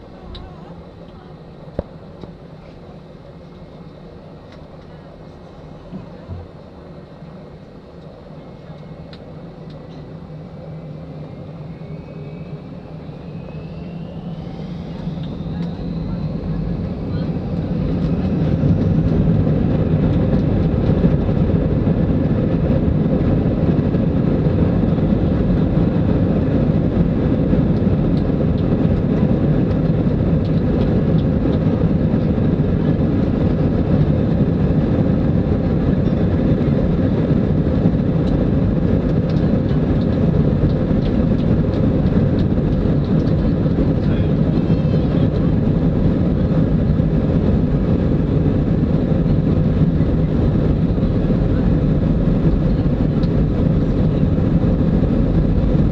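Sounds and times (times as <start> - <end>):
jet engines rumbling: 0.0 - 55.9.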